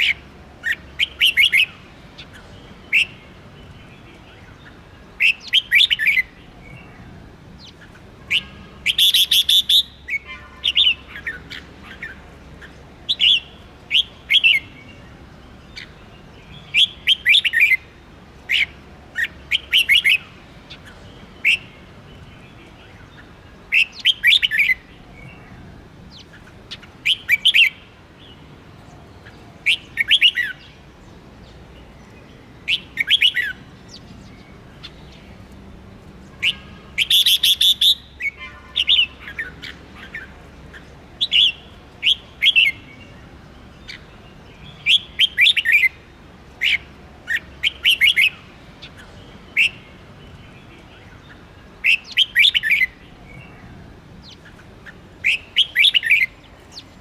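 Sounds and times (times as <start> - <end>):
bird singing whistled notes: 0.0 - 12.2, 13.1 - 17.9, 21.4 - 28.3, 29.6 - 30.8, 31.8 - 35.3, 36.3 - 40.3, 41.2 - 46.0, 46.6 - 54.4, 55.2 - 57.0.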